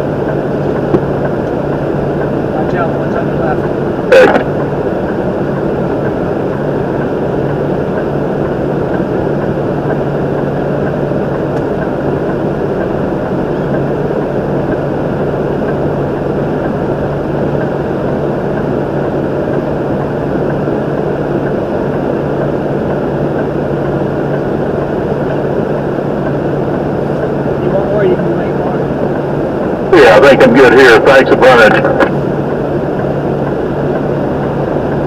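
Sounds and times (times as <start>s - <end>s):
constant low hum: 0.0s - 35.0s
truck diesel engine drone: 0.0s - 35.0s.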